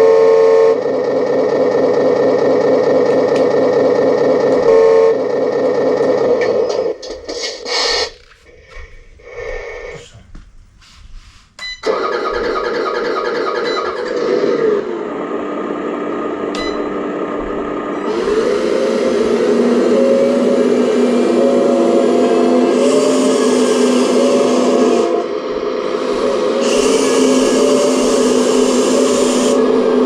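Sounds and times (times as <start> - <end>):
model excavator mechanical whine: 0.0 - 9.9, 11.8 - 30.0.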